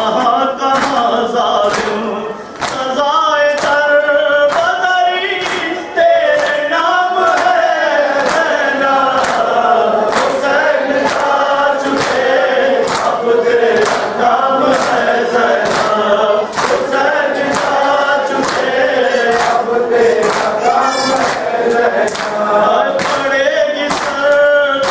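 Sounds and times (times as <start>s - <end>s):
men chanting in unison: 0.0s - 24.9s.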